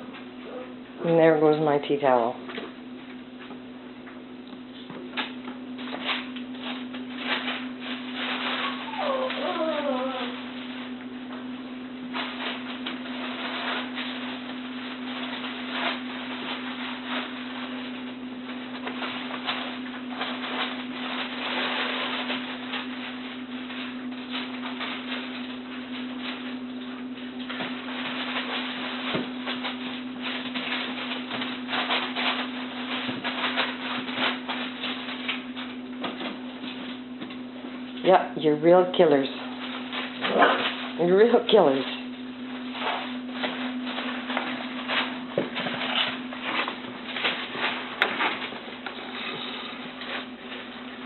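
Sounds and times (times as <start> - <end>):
puppies scuffling: 2.4 - 51.0.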